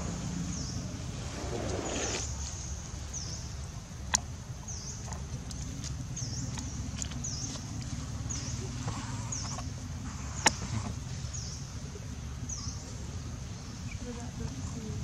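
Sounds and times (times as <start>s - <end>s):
bird chirping: 0.0s - 3.6s, 4.6s - 14.8s
low outdoor rumble: 0.0s - 15.0s.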